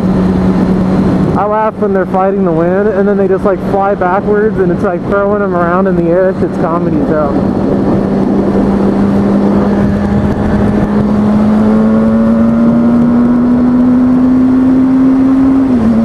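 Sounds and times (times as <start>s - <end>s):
motorcycle engine accelerating: 0.0s - 16.0s
wind on microphone: 0.0s - 16.0s.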